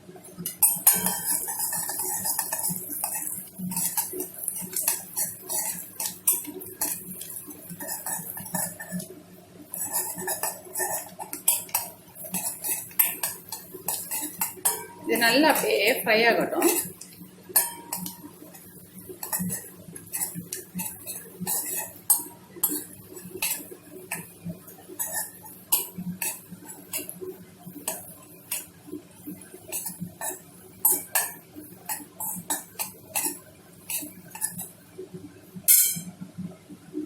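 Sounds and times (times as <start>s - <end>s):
spices frying in oil: 0.0s - 37.0s
spatula scraping a pan: 0.4s - 34.8s.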